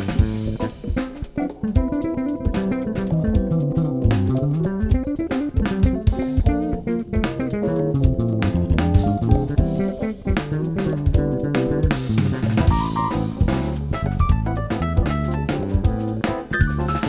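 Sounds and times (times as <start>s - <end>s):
drum kit: 0.0s - 17.0s
keyboard fast runs: 0.0s - 17.0s
electric bass fast runs: 2.5s - 17.0s.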